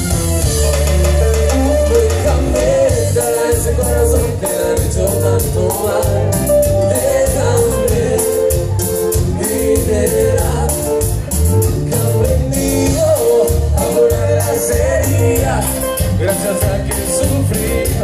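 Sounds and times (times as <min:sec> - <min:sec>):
live cumbia band music: 0:00.0 - 0:18.0.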